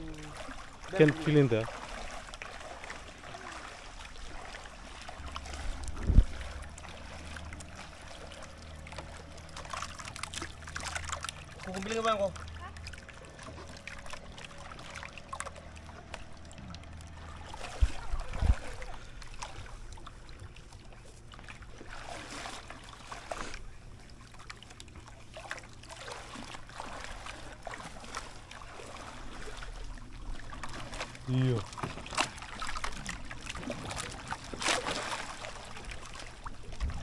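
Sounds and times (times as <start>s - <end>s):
shallow water splashing: 0.0s - 37.0s.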